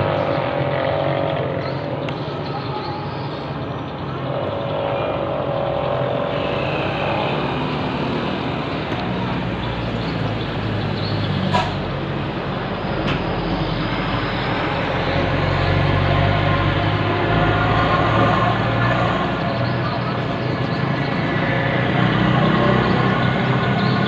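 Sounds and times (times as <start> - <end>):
small motorcycles passing: 0.0 - 2.5, 3.5 - 11.2, 13.4 - 24.0
truck engine approaching: 0.0 - 24.0.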